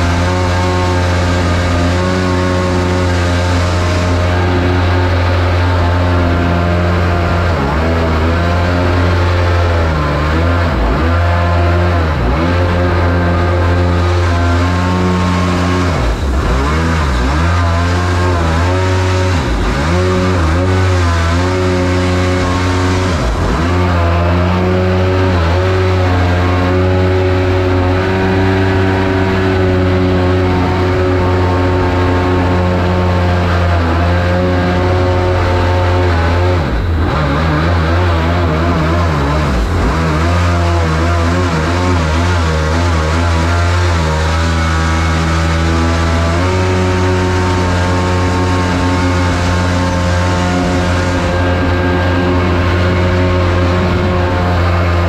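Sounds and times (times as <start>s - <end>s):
boat engine running at high revs: 0.0s - 55.0s.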